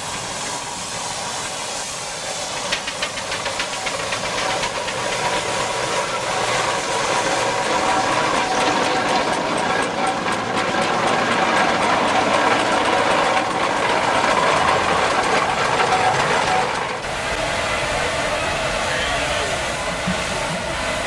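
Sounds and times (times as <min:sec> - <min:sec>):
steam engine beating: 0:00.0 - 0:21.0
steam hissing: 0:00.0 - 0:21.0.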